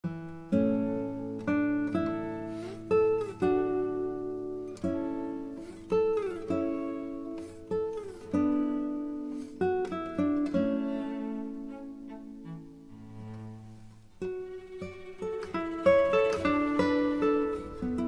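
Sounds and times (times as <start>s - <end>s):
plucked acoustic guitar melody: 0.0s - 18.0s.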